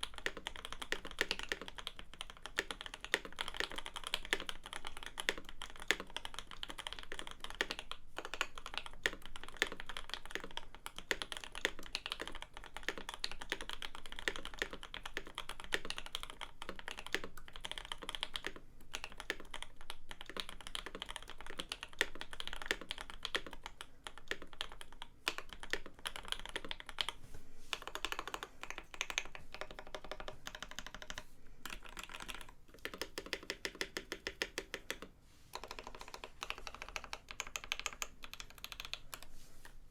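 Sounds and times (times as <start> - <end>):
fast mechanical keyboard typing: 0.0 - 27.2, 27.8 - 39.3.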